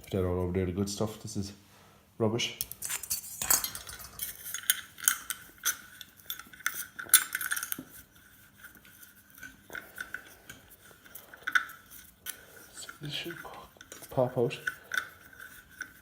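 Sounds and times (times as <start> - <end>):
small metal parts clinking: 2.6 - 16.0.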